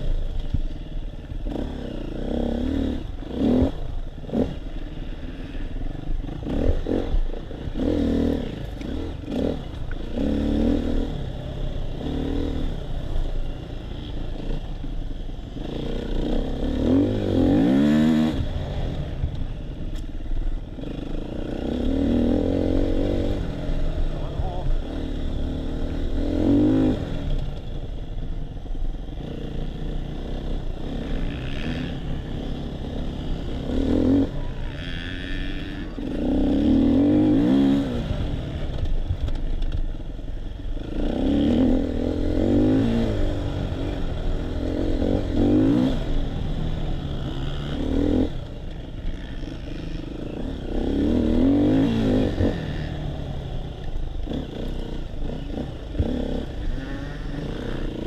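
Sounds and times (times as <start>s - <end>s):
dirt bike engine revving: 1.4s - 14.8s, 15.5s - 19.6s, 20.7s - 27.6s, 29.1s - 39.8s, 40.4s - 58.0s.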